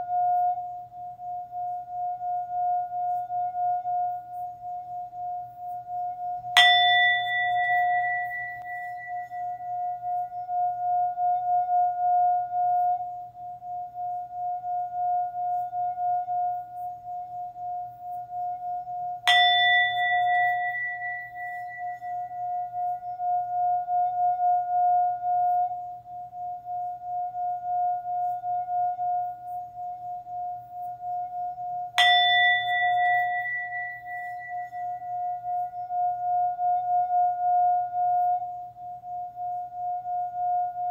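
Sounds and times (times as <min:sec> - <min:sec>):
singing bowl ringing: 0:00.0 - 0:40.9.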